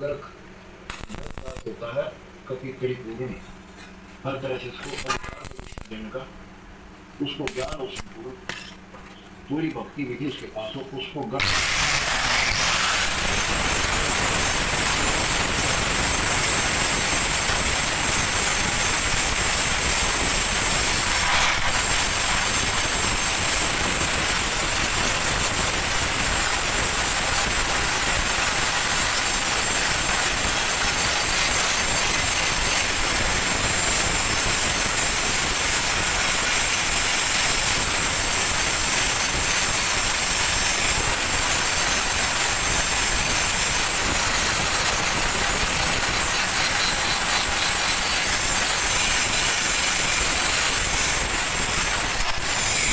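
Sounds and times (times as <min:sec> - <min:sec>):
welding arc hissing: 0:00.9 - 0:01.8, 0:04.8 - 0:06.0, 0:11.4 - 0:52.9.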